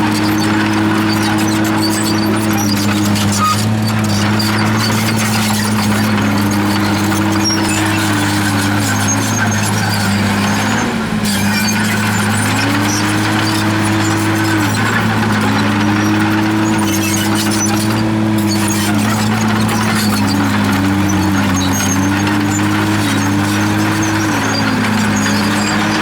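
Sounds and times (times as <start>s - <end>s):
bulldozer diesel hum: 0.0s - 26.0s.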